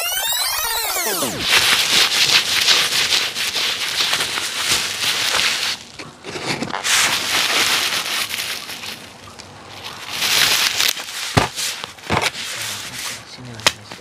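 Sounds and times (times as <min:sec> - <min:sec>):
bubble wrap crinkling: 0:01.0 - 0:14.0.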